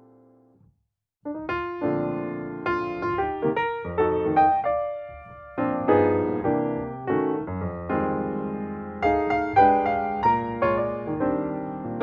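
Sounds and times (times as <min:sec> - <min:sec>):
soft piano music: 0:01.3 - 0:12.0.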